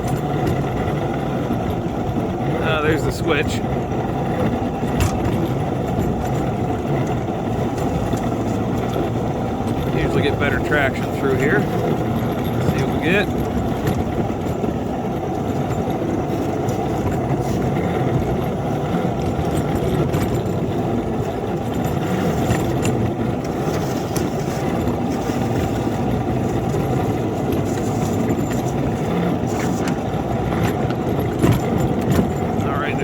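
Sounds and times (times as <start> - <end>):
locomotive engine running under load: 0.0 - 33.0.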